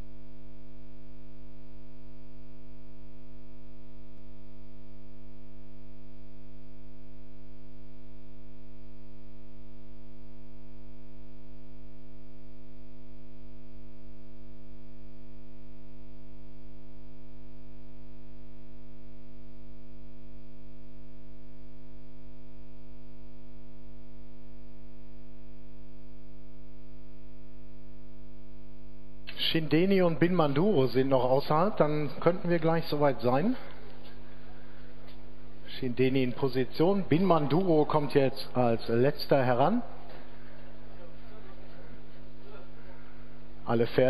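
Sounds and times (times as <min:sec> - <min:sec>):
electrical hum and buzz: 0:00.0 - 0:44.0.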